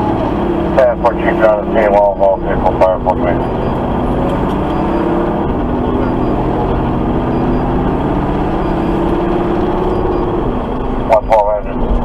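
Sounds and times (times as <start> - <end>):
diesel engine running: 0.0 - 12.0
road noise: 0.0 - 12.0.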